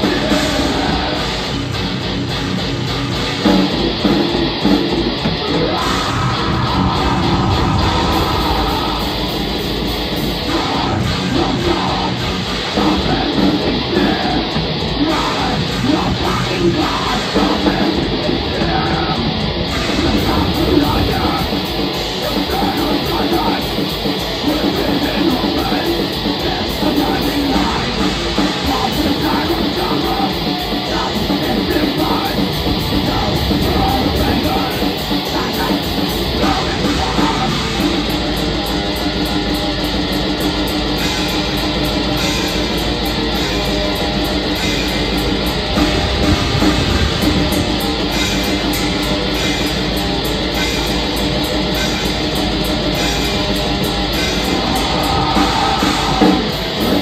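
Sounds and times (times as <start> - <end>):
distorted electric guitars: 0.0 - 57.0
drums: 0.0 - 57.0.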